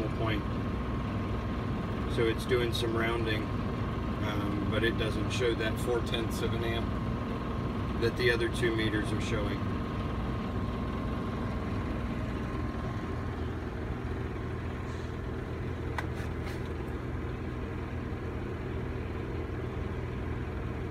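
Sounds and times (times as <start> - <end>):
furnace motor humming: 0.0 - 20.9.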